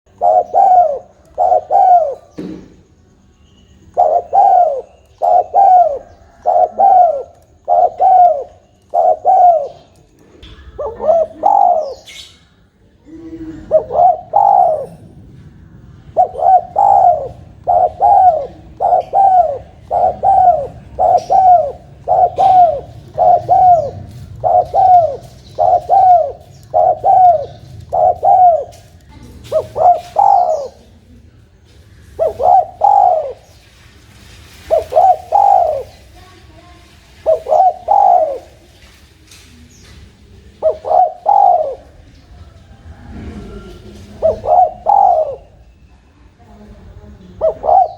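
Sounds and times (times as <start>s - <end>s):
dove cooing: 0.1s - 2.9s, 3.8s - 36.4s, 37.0s - 45.7s, 47.2s - 47.9s.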